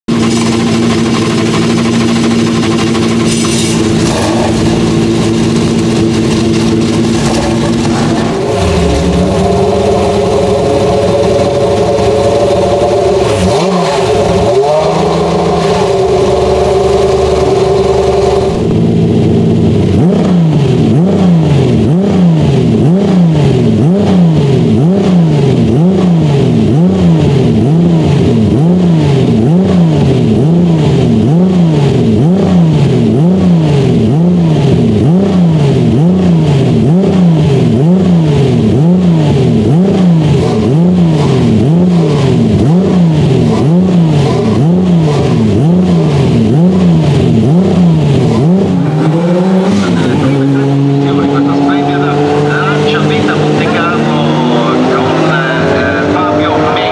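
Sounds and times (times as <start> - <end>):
car engine revving: 0.1 - 56.9.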